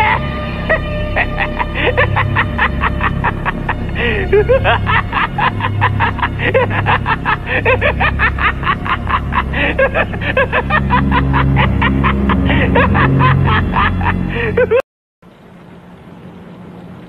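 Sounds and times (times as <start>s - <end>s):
rapid snicker-like pulsing: 0.0s - 14.8s
low steady drone: 0.0s - 17.0s.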